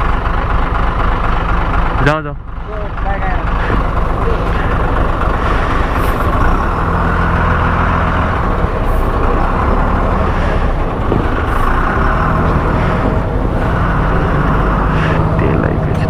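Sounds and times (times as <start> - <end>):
vehicle engine hum: 0.0 - 16.0
wind and road noise: 0.0 - 16.0.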